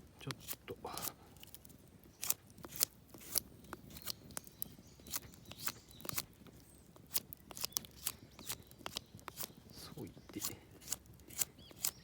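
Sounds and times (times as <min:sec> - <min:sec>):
knife carving wood: 0:00.2 - 0:06.4, 0:07.0 - 0:12.0.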